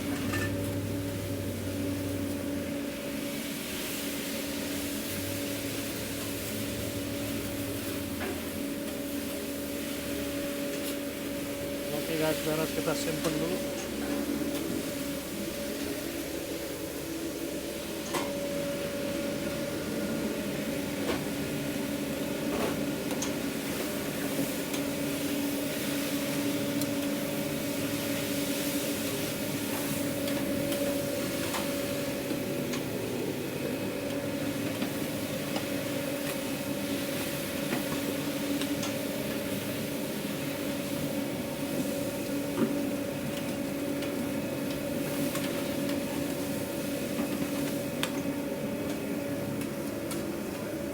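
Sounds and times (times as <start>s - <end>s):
kitchen machinery hum: 0.0s - 50.9s.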